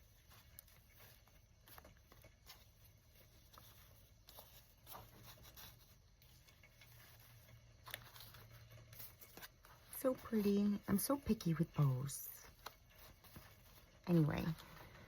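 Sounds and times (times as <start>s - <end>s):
ribbon rustling: 0.0s - 15.0s.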